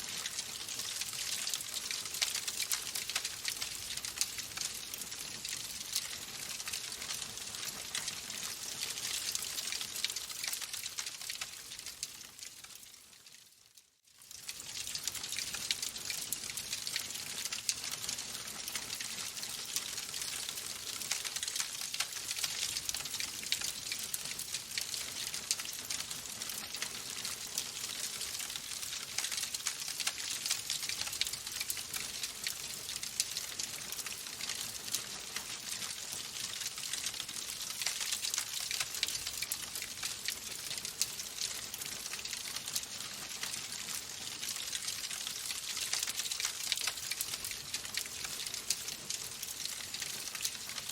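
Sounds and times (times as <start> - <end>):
wood fire crackling: 0.0 - 13.4, 14.2 - 50.9.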